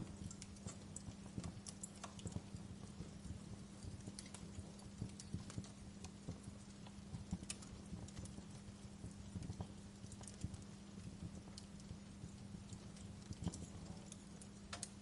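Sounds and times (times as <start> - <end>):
faint steady hiss: 0.0 - 15.0
fire crackling: 0.0 - 15.0.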